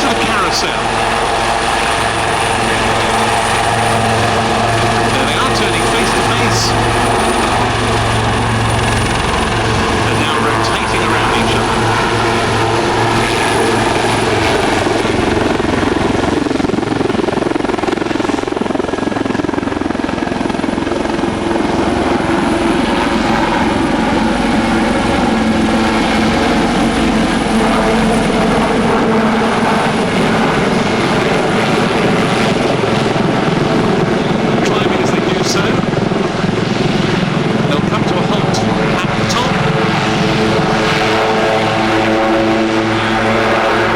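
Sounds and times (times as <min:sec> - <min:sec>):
helicopters hovering: 0:00.0 - 0:43.9.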